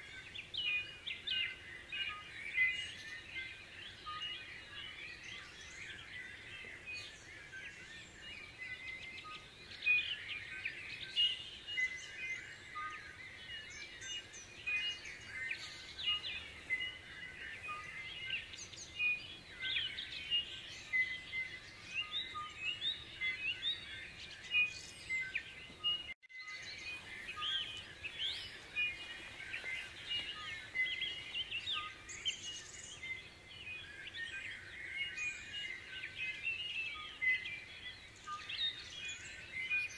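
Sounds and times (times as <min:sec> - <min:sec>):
many birds singing: 0:00.0 - 0:39.9.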